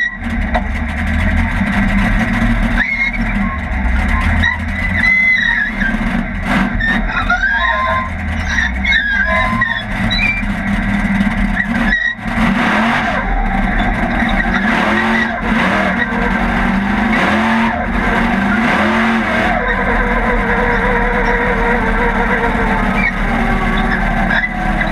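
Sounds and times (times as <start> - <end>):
race car engine revving: 0.0 - 24.9
high squeaks: 2.6 - 6.1, 6.7 - 24.9.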